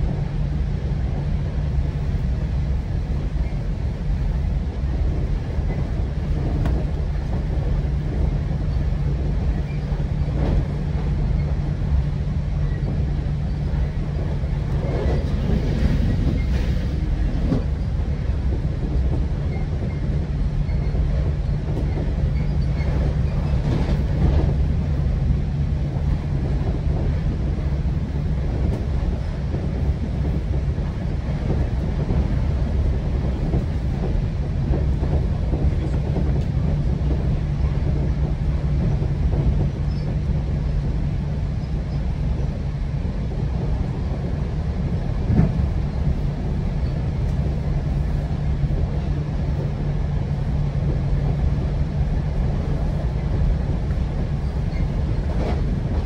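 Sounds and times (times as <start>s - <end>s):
train rumble and hum: 0.0s - 56.0s.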